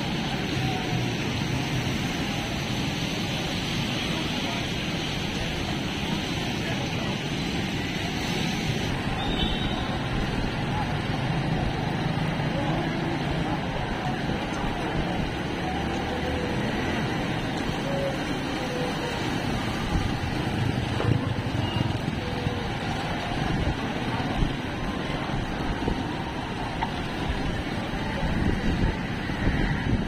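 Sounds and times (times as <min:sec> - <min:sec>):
faint voices: 0:00.0 - 0:30.0
traffic rumble: 0:00.0 - 0:30.0.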